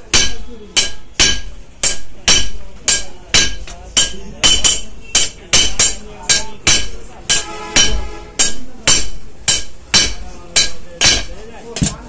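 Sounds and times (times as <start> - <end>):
hammers striking metal on anvil: 0.0 - 12.0.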